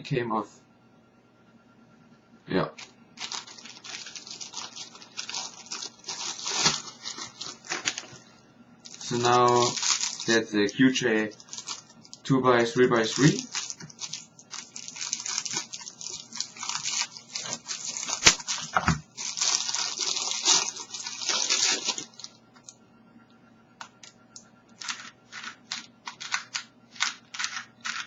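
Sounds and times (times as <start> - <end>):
packaging crackling: 2.8 - 22.8, 24.8 - 28.0.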